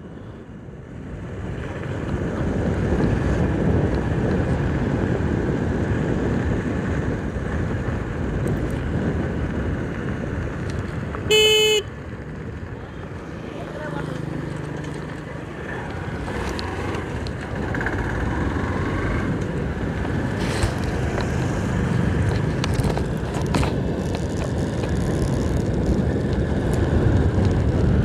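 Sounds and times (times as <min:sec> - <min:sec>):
wind noise on microphone: 0:00.0 - 0:13.5, 0:14.2 - 0:28.0
motorcycle engine accelerating: 0:01.8 - 0:28.0.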